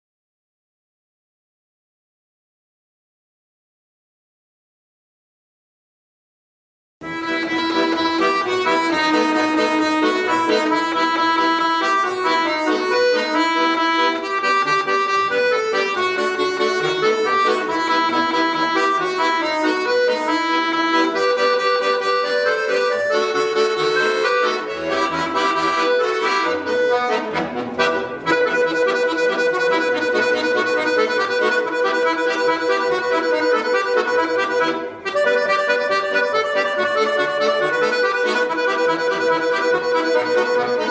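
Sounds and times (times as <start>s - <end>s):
button accordion solo piece: 7.0s - 40.9s.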